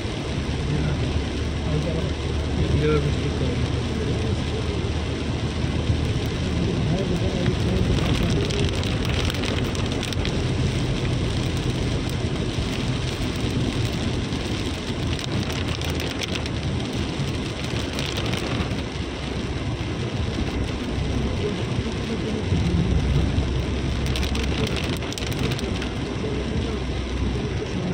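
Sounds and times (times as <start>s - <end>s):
engine and tyre rumble: 0.0s - 27.9s
heavy rain drumming on car roof: 0.0s - 27.9s.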